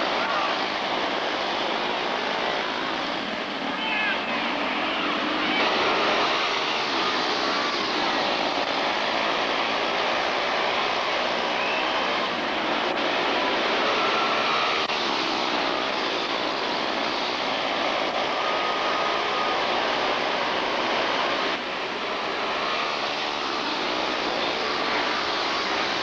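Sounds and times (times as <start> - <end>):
race car engines buzzing drone: 0.0 - 26.0
single engine passing: 0.0 - 26.0.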